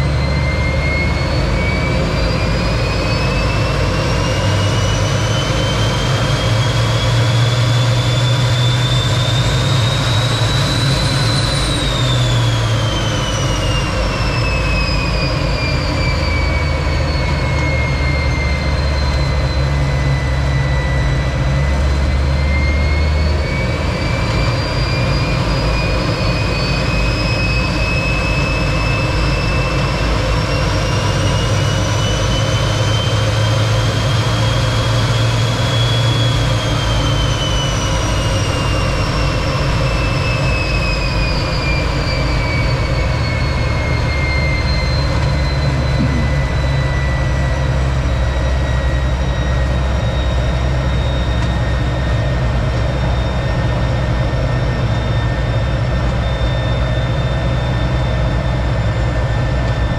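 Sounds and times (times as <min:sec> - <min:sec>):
jet engine roar: 0:00.0 - 0:59.9
turbine whine: 0:00.0 - 0:59.9.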